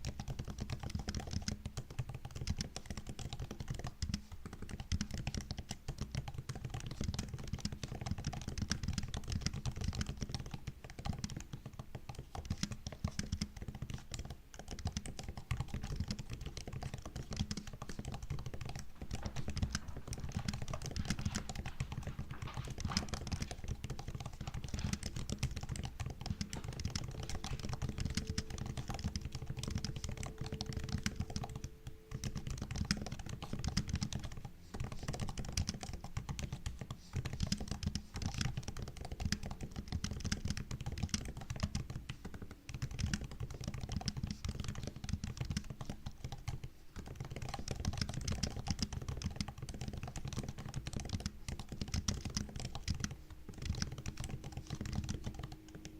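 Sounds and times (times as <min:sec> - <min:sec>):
laptop keyboard typing: 0:00.0 - 0:55.9.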